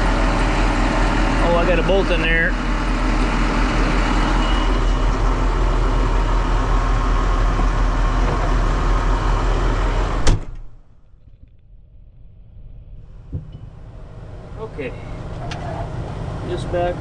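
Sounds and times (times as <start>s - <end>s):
truck engine idling: 0.0s - 10.2s, 12.8s - 17.0s.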